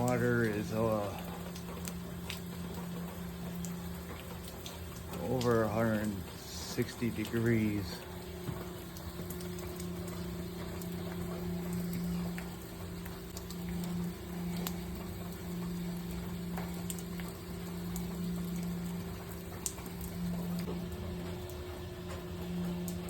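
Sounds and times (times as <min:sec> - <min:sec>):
dripping ticks: 0:00.0 - 0:23.0
hot water spraying and pattering: 0:00.0 - 0:23.0
steady low hum: 0:00.0 - 0:23.0.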